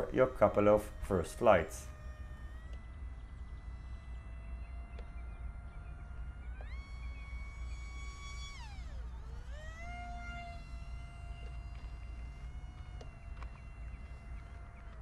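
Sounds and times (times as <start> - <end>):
low wind rumble: 0.0 - 15.0
model plane motor whining: 0.0 - 15.0.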